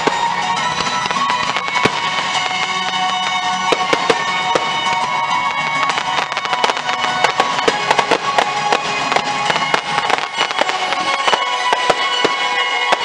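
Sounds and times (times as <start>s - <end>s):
fireworks bursting and crackling: 0.0s - 13.0s
loud music: 0.0s - 13.0s.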